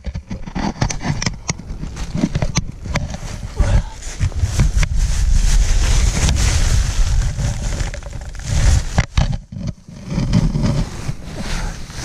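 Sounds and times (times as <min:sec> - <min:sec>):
rustling against nylon: 0:00.0 - 0:12.0
deep rumble: 0:01.7 - 0:12.0.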